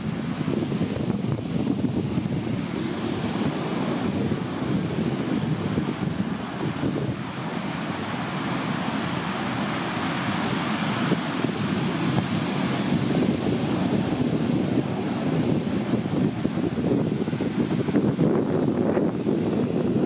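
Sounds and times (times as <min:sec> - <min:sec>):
heavy surf breaking: 0:00.0 - 0:20.0
wind buffeting microphone: 0:00.0 - 0:20.0.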